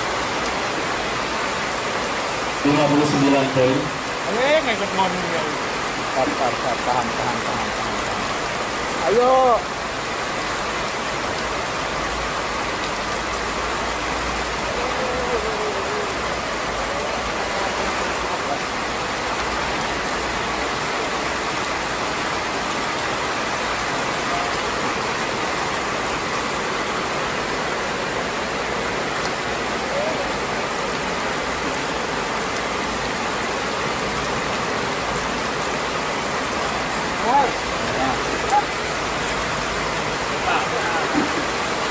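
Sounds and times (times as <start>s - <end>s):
rain falling on pond: 0.0s - 41.9s.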